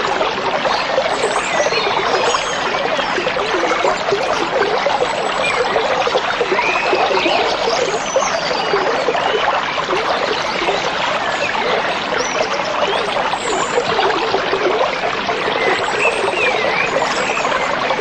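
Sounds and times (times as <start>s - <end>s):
stream babbling: 0.0s - 18.0s.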